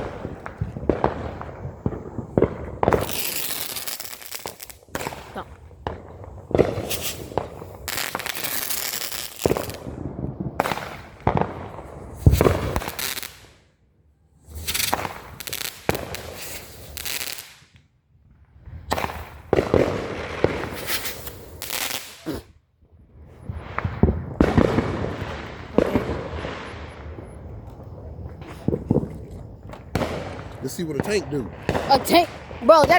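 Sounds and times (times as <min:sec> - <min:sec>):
fireworks crackling and banging: 0:00.0 - 0:13.8, 0:14.4 - 0:32.9.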